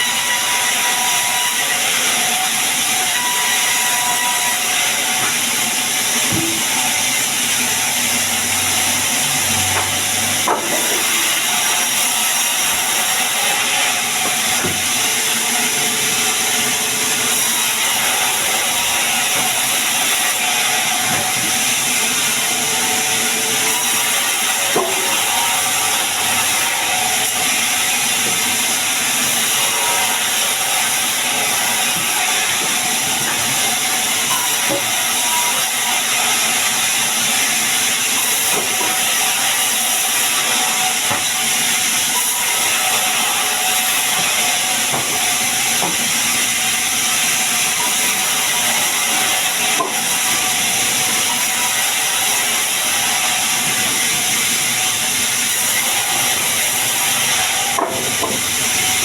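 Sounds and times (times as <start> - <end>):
sawmill saw cutting wood: 0.0 - 59.0.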